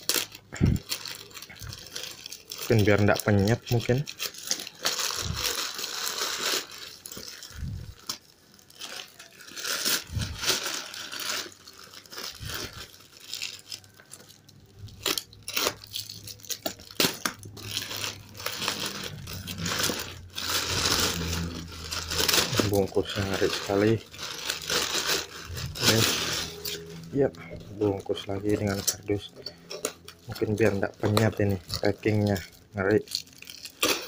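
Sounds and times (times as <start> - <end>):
plastic crinkling and tearing: 0.0 - 34.0.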